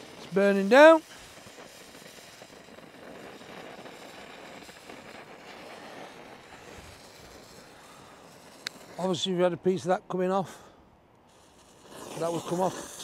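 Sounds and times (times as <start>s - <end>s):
fuse burning with faint fizz: 0.0s - 13.0s.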